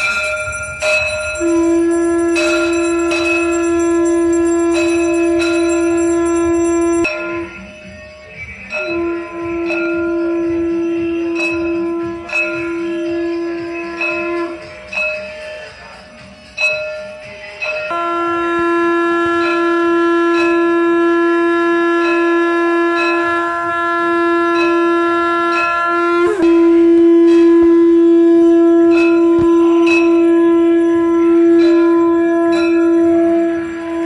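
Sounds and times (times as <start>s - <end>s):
temple bell struck: 0.0s - 7.7s, 8.8s - 15.5s, 16.6s - 34.0s
conch shell blasts: 0.0s - 7.8s, 8.8s - 15.3s, 17.8s - 34.0s.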